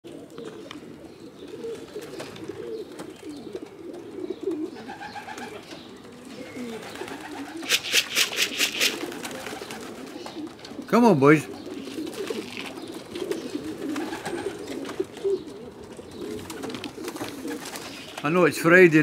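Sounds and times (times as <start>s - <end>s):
pigeons cooing: 0.1s - 19.0s.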